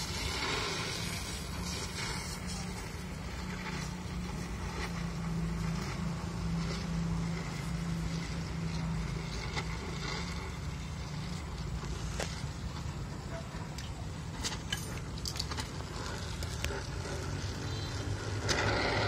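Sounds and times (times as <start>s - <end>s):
arc welding crackling: 0.0s - 19.0s.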